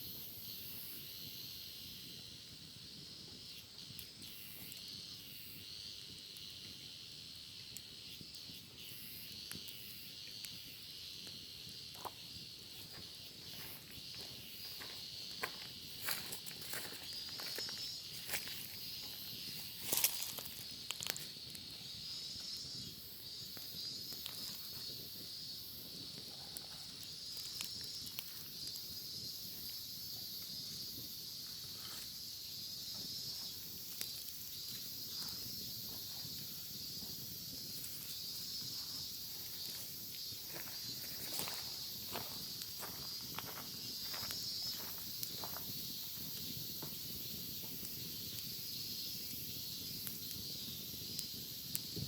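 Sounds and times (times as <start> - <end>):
cicadas droning: 0.0 - 52.0
wood fire crackling: 0.0 - 52.0.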